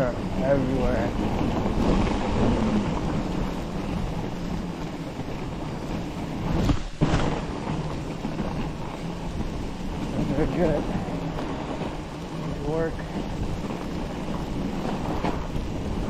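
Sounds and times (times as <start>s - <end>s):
bike tyres rolling over snow: 0.0s - 16.0s
wind rushing over microphone: 0.0s - 16.0s.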